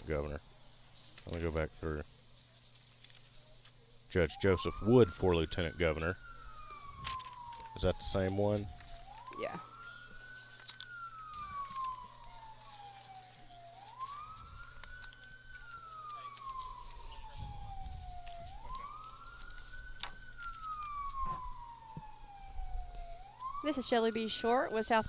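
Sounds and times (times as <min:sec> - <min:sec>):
police siren wailing: 0:04.1 - 0:25.0.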